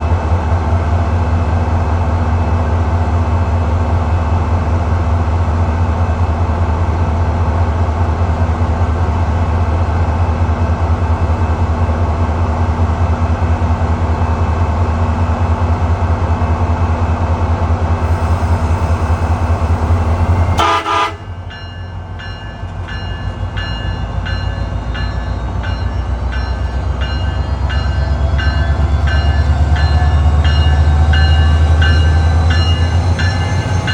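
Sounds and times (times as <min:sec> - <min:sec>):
diesel locomotive running: 0:00.0 - 0:33.9.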